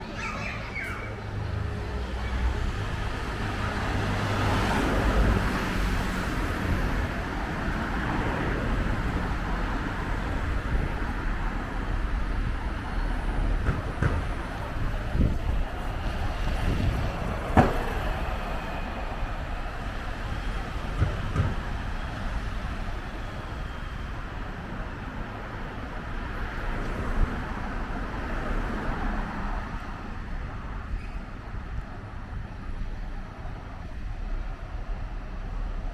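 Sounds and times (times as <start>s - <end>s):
bus engine and road noise: 0.0s - 35.9s.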